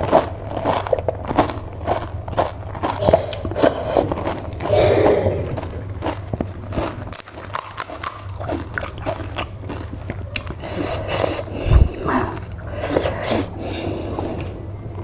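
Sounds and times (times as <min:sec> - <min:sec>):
crisp shells crunching when chewed: 0:00.0 - 0:15.0.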